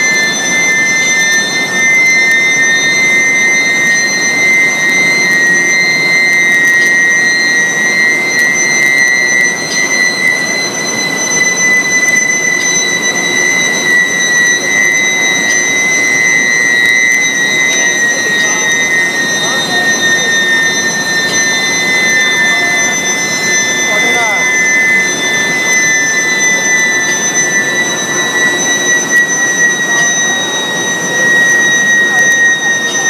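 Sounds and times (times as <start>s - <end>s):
high-pitched furnace whine: 0.0s - 33.0s
rushing machine noise: 0.0s - 33.0s.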